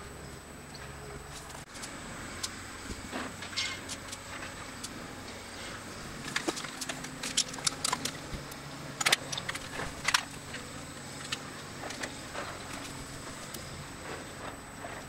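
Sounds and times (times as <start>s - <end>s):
excavator engine humming: 0.0s - 15.0s.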